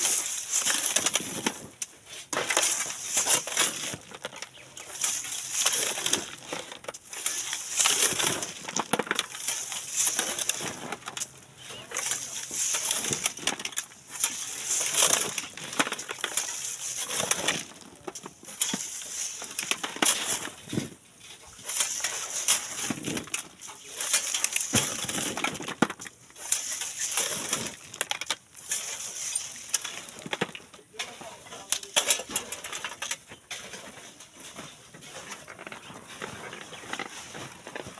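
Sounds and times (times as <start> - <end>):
tools scraping sand and gravel: 0.0 - 37.9.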